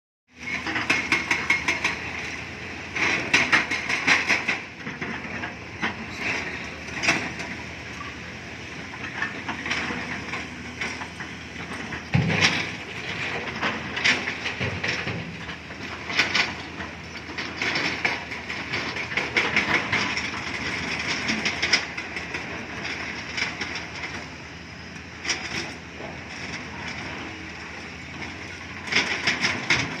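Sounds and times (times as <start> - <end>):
diesel engine running: 0.3 - 30.0.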